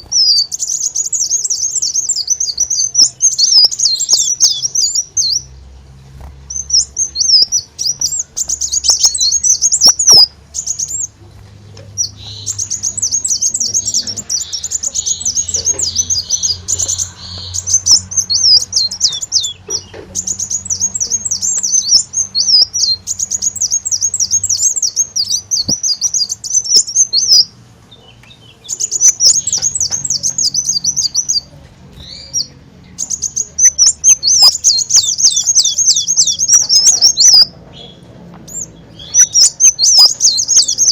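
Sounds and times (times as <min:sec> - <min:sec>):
sunbird twittering song: 0:00.0 - 0:40.9.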